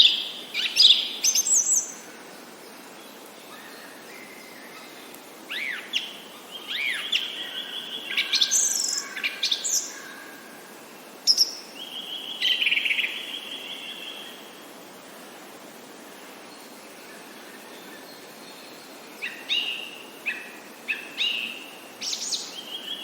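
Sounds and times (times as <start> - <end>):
songbirds singing and calling: 0.0 - 23.0
steady background hiss: 0.0 - 23.0.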